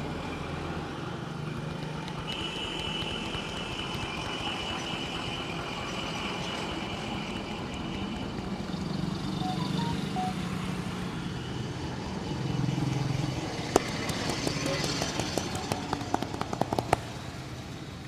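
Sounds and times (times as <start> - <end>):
passing vehicle engine hum: 0.0 - 18.0
street traffic noise: 0.0 - 18.0.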